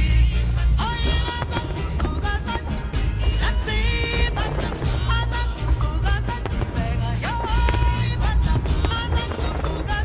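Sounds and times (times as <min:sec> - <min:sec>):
heavy bass: 0:00.0 - 0:10.0
percussion hits: 0:00.6 - 0:10.0.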